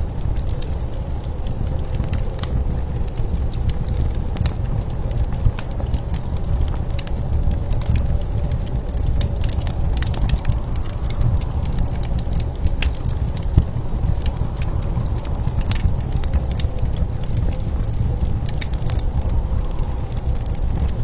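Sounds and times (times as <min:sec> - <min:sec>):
blizzard wind rumble: 0:00.0 - 0:21.0
wood fire crackling: 0:00.0 - 0:21.0.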